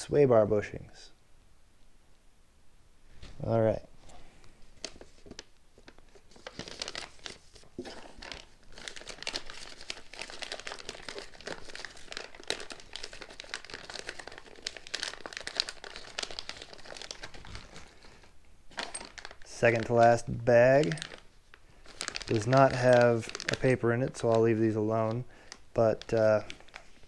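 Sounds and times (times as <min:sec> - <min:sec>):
plastic bag crinkling: 0:04.7 - 0:27.0.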